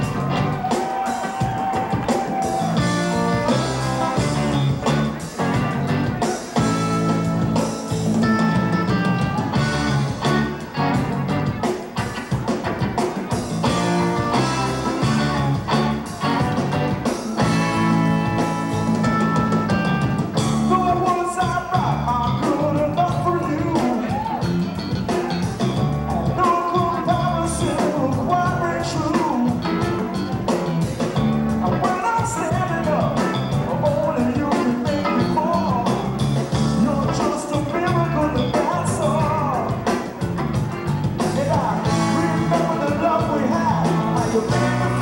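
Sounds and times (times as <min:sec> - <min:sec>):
live rock band playing: 0:00.0 - 0:45.0.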